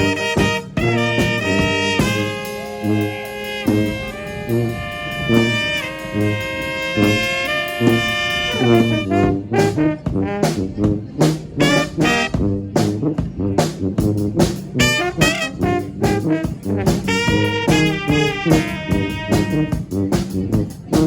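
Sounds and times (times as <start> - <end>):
brass band playing: 0.0 - 21.0.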